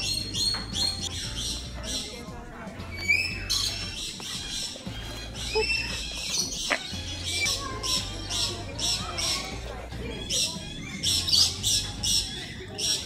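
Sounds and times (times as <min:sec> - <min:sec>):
flock of lorikeets screeching: 0:00.0 - 0:02.2, 0:02.9 - 0:13.0.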